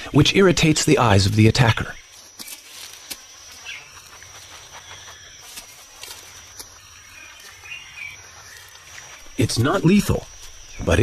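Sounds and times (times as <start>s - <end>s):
rustles in dry leaves: 2.0s - 11.0s.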